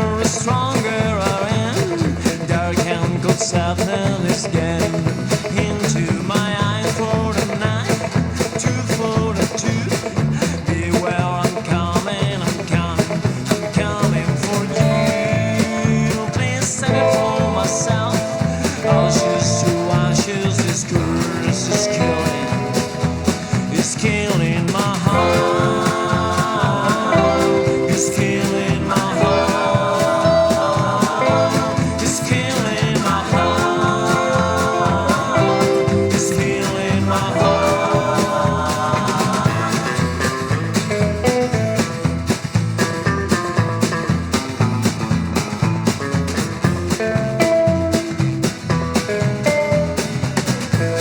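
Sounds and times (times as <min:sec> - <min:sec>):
acoustic guitar: 0:00.0 - 0:51.0
drums: 0:00.0 - 0:51.0
electric guitar: 0:00.0 - 0:51.0
upright bass: 0:00.0 - 0:51.0.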